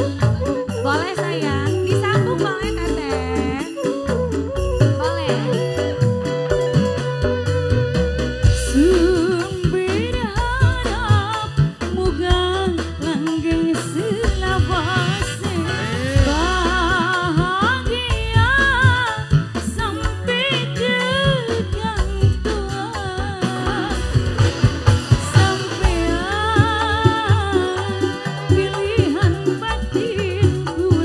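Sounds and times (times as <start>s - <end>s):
woman singing: 0.0s - 7.3s, 8.6s - 31.0s
live band playing: 0.0s - 31.0s.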